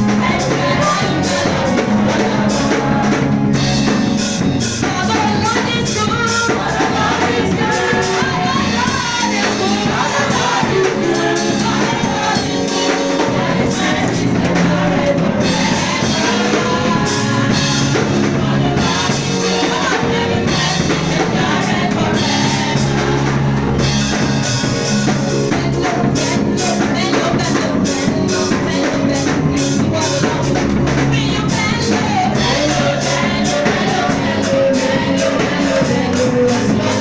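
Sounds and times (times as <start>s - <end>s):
bass: 0.0s - 37.0s
choir singing: 0.0s - 37.0s
drums: 0.0s - 37.0s
lead singer: 0.0s - 37.0s.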